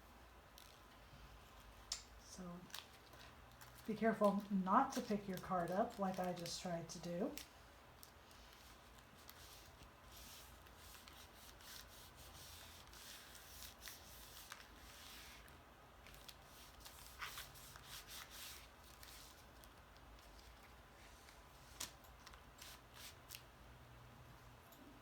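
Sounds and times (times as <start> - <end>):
cardstock rustling: 2.6 - 23.4.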